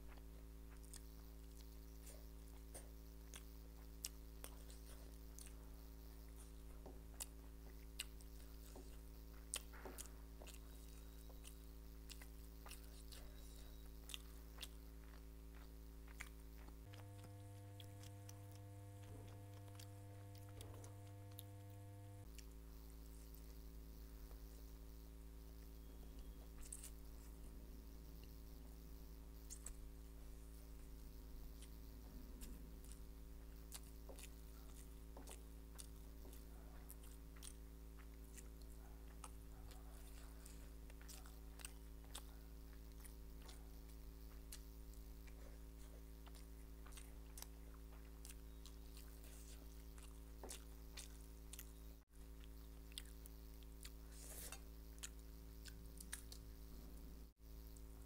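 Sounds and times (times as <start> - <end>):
person chewing: 0.0 - 23.6, 25.6 - 28.4, 29.4 - 58.0
steady low hum: 0.0 - 58.0.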